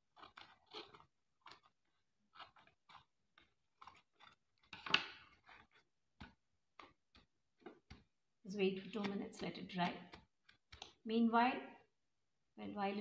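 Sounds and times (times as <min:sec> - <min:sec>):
scissors snipping paper: 0:00.0 - 0:11.0.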